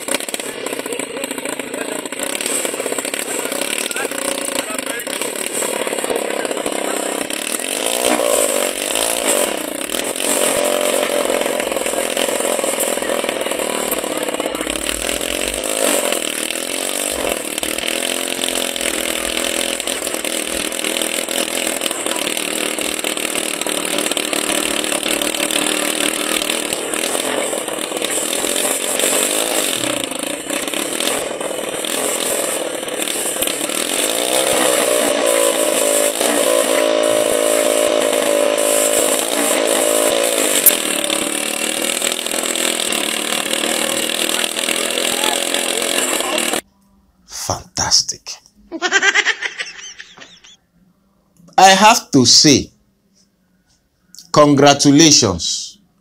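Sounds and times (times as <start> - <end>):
small engine running hard: 0.0 - 46.7, 48.9 - 50.6.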